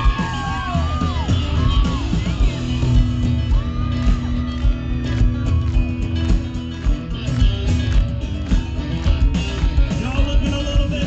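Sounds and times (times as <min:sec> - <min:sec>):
country band playing: 0:00.0 - 0:11.0
guitar: 0:00.0 - 0:11.0
steady drum beat: 0:00.0 - 0:11.0.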